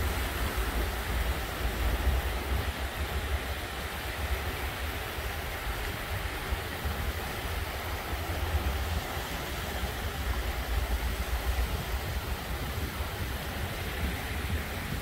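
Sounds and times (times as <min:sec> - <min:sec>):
waves washing onto beach: 0:00.0 - 0:15.0.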